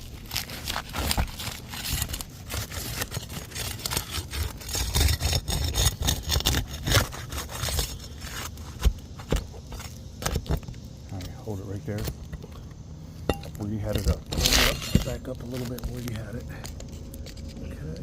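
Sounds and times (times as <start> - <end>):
roof shingles scraping and crackling: 0.0 - 12.2, 13.8 - 17.8.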